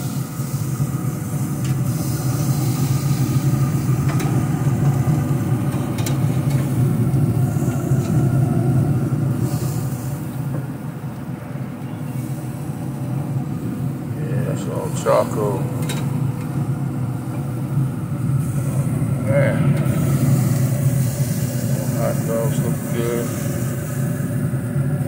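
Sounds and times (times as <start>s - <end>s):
faint steady hum: 0.0s - 25.0s
smoker burning with rumbling roar: 0.0s - 25.0s.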